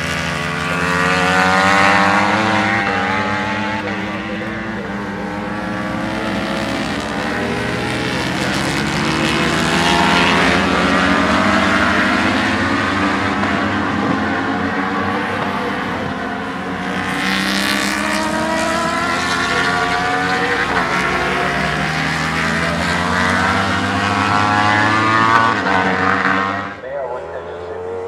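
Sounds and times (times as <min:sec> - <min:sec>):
racing motorbikes passing: 0:00.0 - 0:28.0.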